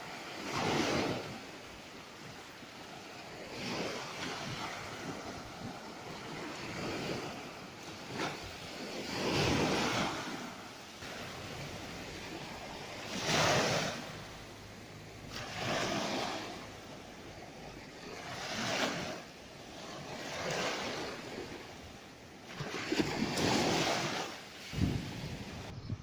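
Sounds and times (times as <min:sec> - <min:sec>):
small waves breaking on beach: 0:00.0 - 0:25.7.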